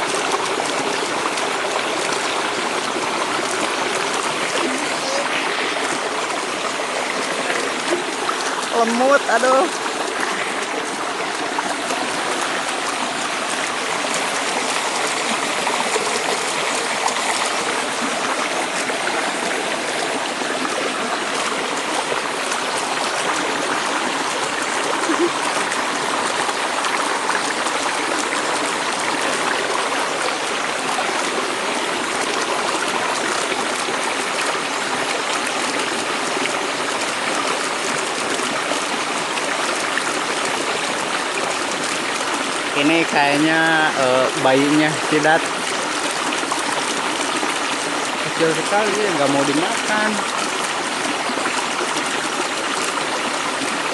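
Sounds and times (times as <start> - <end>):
stream water running over twigs: 0.0 - 53.9.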